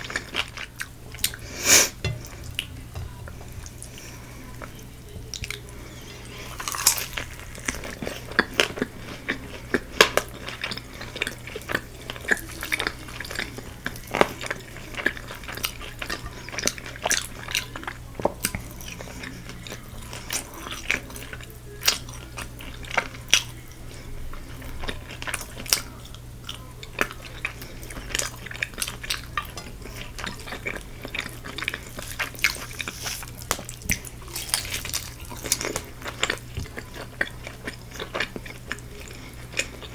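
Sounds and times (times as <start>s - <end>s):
faint low hum: 0.0s - 39.9s
biting and chewing crispy food: 3.8s - 39.9s.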